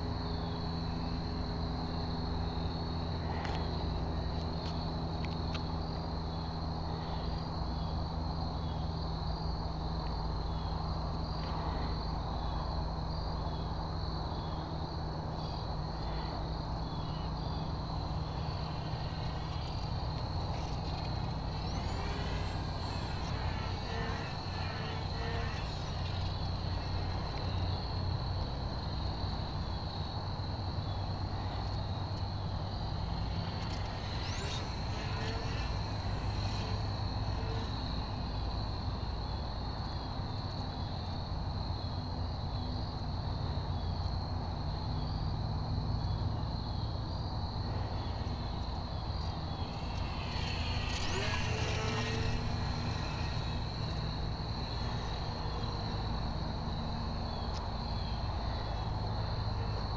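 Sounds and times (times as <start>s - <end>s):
insects chirping in a trill: 0.0s - 59.9s
low steady hum: 0.0s - 59.9s.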